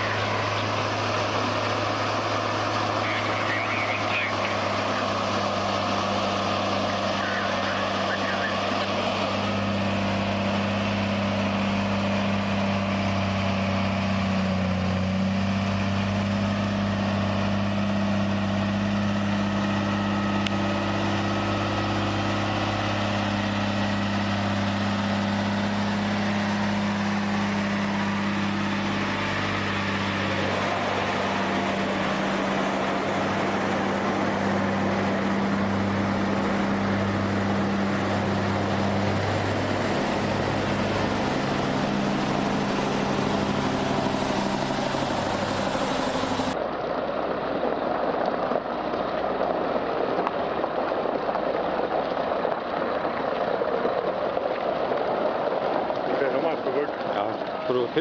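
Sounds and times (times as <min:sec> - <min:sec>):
truck engine idling: 0:00.0 - 0:47.3.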